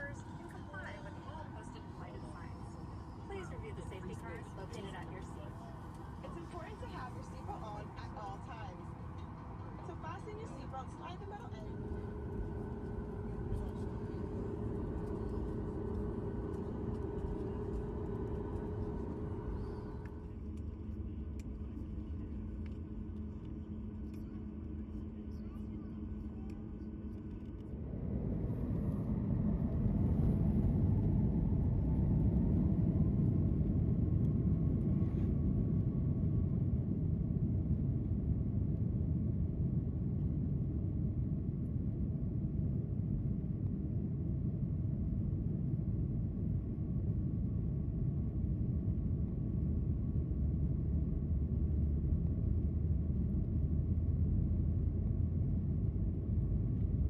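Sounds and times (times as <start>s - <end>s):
faint high hum: 0.0s - 57.0s
jet engine and airflow rumble: 0.0s - 57.0s.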